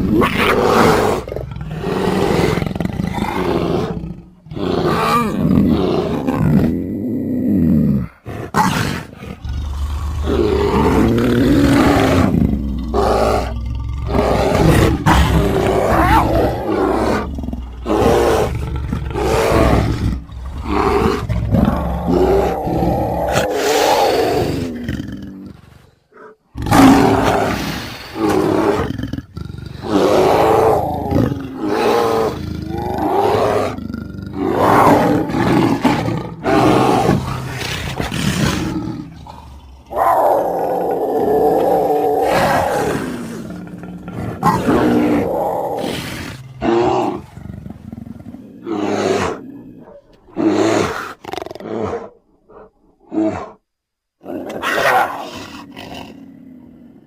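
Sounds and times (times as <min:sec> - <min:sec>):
creature roars and snarls: 0:00.0 - 0:52.2.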